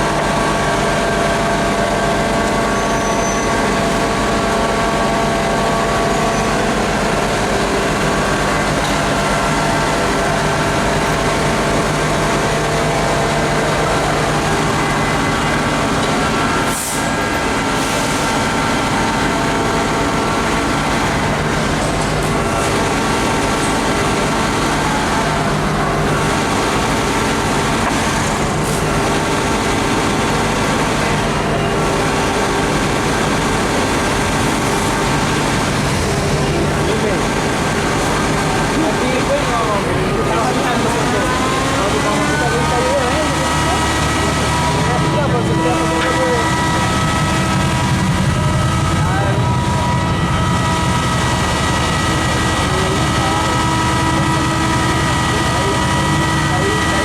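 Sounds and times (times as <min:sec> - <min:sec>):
fire truck engine running: 0:00.0 - 0:57.0.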